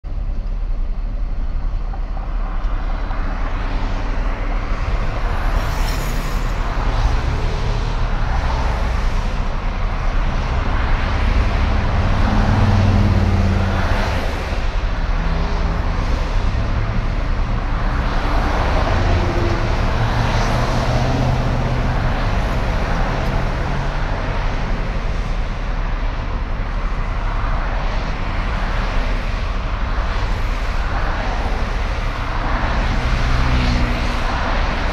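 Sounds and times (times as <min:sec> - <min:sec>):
road traffic passing: 0:00.0 - 0:34.9.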